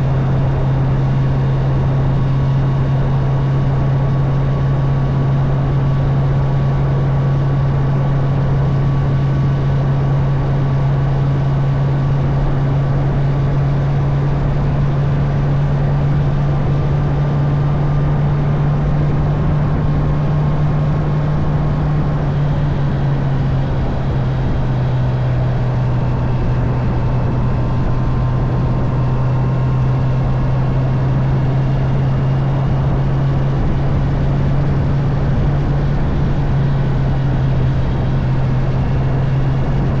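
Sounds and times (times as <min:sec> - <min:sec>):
motorcycle engine cruising: 0:00.0 - 0:40.0
wind and road noise: 0:00.0 - 0:40.0.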